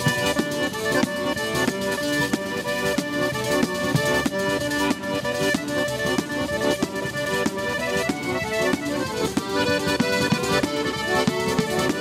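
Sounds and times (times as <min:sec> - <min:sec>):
frame drum with jingles beat: 0:00.0 - 0:12.0
piano accordion playing chords: 0:00.0 - 0:12.0.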